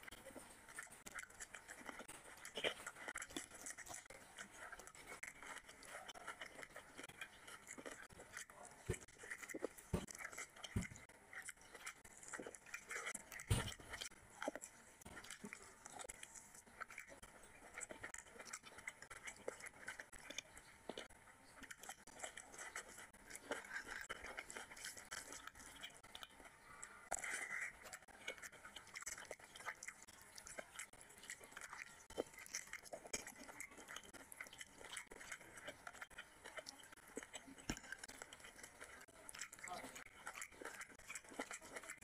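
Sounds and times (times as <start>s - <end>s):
fingers in sticky curry: 0.0s - 42.0s
wet chewing and crunching: 0.0s - 42.0s.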